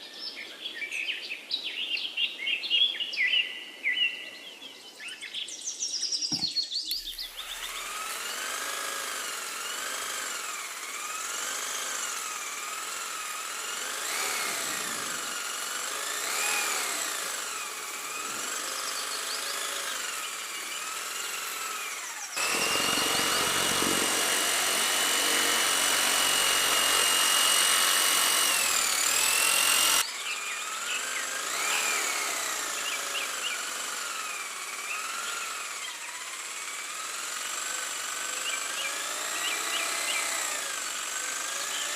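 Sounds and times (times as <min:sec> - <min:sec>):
small motor whining: 0:06.3 - 0:41.9.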